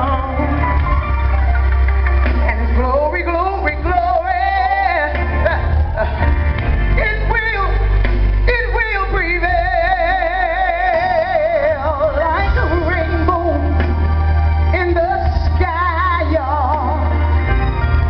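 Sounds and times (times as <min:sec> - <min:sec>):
woman singing a ballad: 0:00.0 - 0:01.4, 0:02.4 - 0:17.5
band playing: 0:00.0 - 0:18.0
heavy steady bass: 0:00.0 - 0:18.0.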